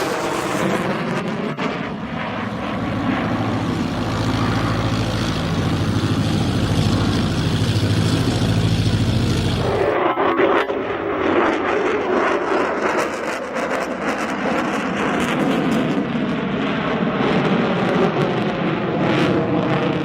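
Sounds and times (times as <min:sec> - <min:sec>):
aircraft engine throbbing: 0:00.0 - 0:20.0.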